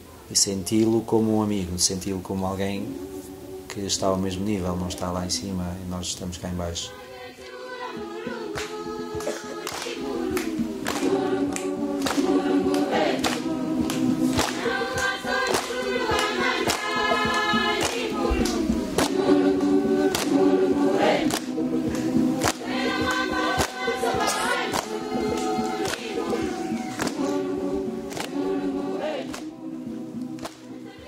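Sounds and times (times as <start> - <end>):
choir singing in parts: 2.0 - 31.0.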